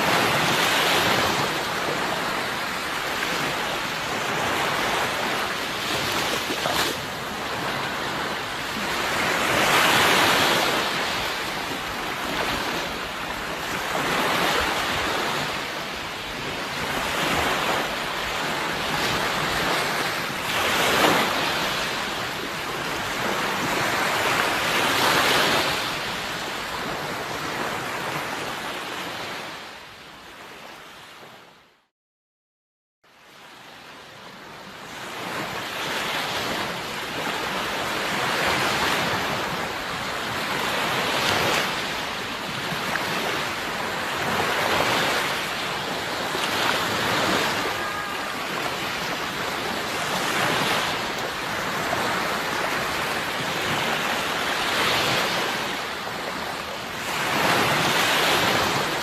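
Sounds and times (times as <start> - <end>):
sea waves breaking on shore: 0.0 - 31.6, 33.1 - 59.0.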